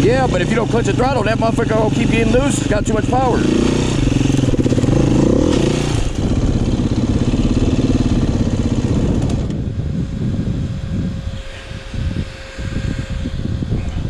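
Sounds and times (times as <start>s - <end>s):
dirt bike engine running: 0.0s - 13.4s.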